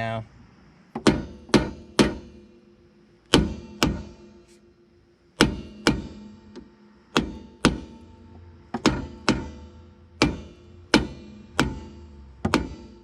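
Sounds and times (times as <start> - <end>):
hammer striking metal hub: 1.0 - 2.7, 3.3 - 4.6, 5.4 - 13.0.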